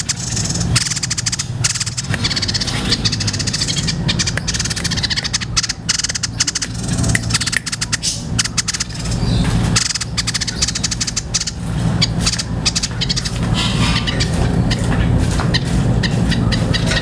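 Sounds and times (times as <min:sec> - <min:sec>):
bird chattering song: 0:00.0 - 0:17.0
steady low rumble: 0:00.0 - 0:17.0.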